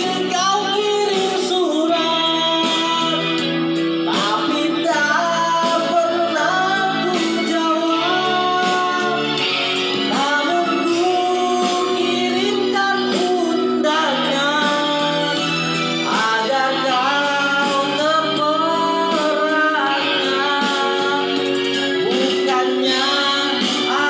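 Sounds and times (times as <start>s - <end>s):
woman singing: 0.0s - 3.4s, 4.1s - 9.4s, 10.1s - 24.0s
instrumental accompaniment: 0.0s - 24.0s.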